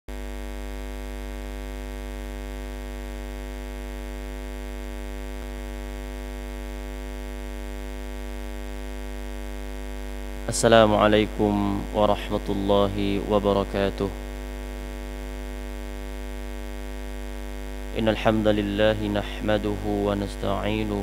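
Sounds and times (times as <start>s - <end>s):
electrical mains hum: 0.1s - 21.0s.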